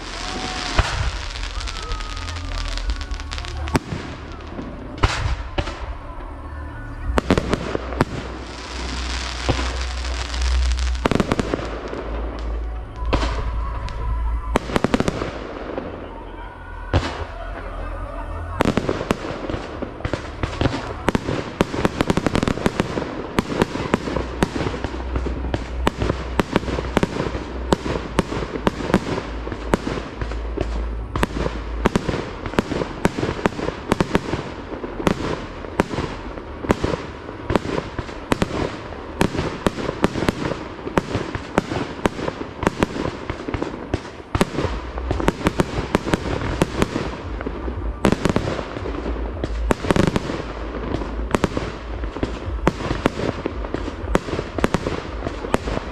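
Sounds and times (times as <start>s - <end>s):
deep rumble: 0.0s - 55.9s
fireworks bangs: 0.0s - 55.9s.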